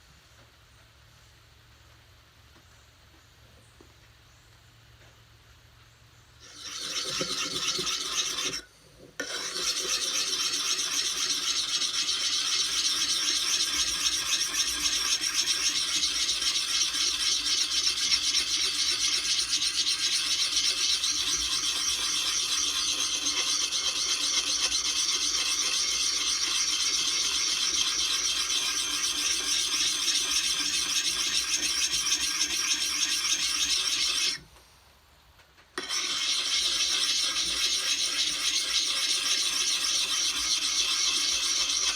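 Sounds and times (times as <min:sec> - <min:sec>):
sharpening puck rasping on axe: 0:06.4 - 0:08.6, 0:09.2 - 0:34.4, 0:35.8 - 0:41.9.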